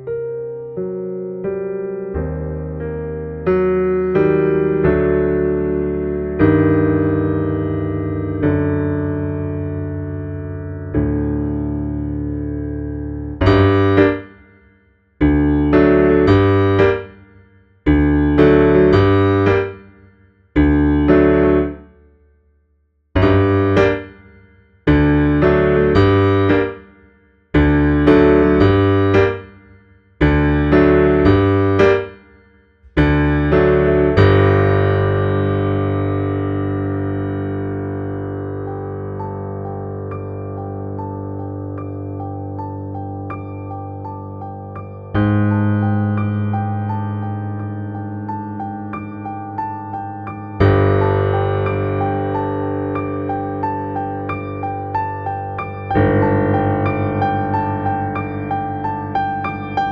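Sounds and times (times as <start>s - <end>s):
solo piano chords: 0.0s - 22.5s, 23.1s - 59.9s.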